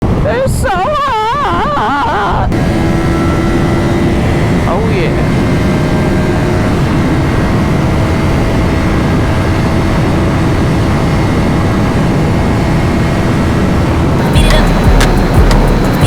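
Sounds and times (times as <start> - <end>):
motorcycle engine drone: 2.5 - 16.0.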